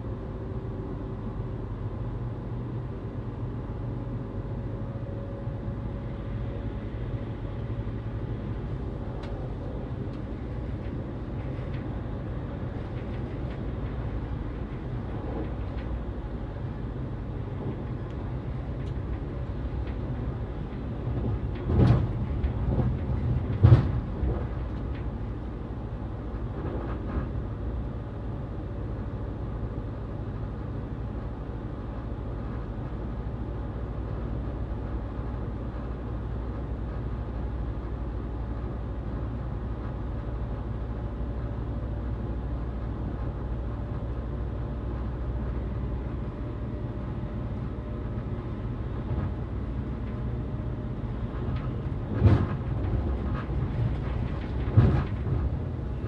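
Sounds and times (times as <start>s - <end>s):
train rumbling inside carriage: 0.0s - 56.0s.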